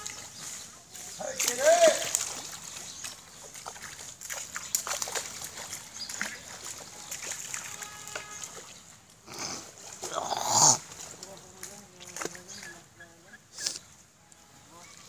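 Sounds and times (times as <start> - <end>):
small sharp splashes: 0.0 - 12.9
pond water sloshing: 0.0 - 15.0.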